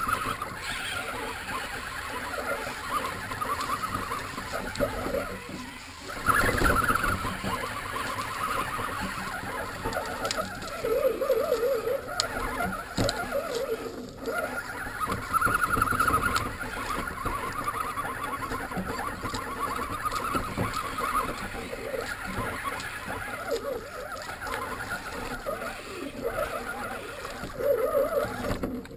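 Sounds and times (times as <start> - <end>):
water splashing: 0.0 - 28.6
electric motor whining: 0.0 - 28.9.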